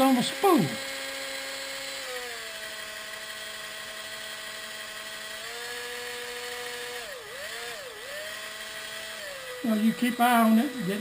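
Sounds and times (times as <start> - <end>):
power drill motor whine: 0.0 - 11.0.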